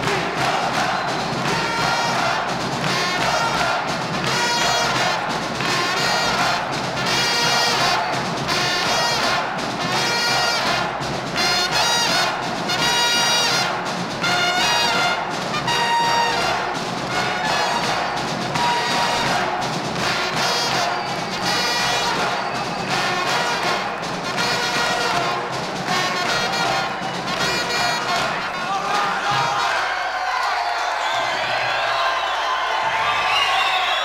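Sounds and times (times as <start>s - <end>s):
brass band playing: 0.0s - 30.2s.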